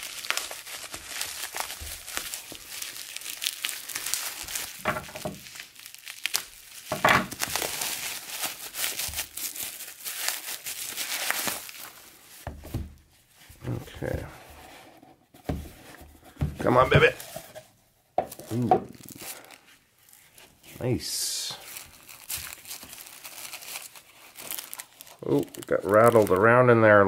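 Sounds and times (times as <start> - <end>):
plastic wrap crinkling: 0.0 - 14.2, 18.2 - 27.0.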